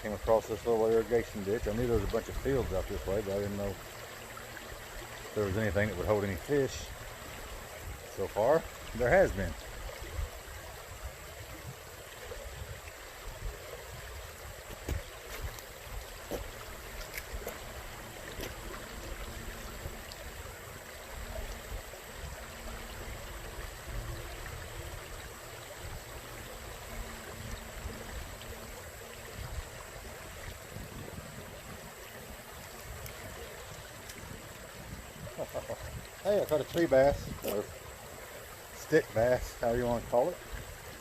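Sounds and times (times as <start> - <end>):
low uneven rumble: 0.0 - 41.0
water flowing in a ditch: 0.0 - 41.0.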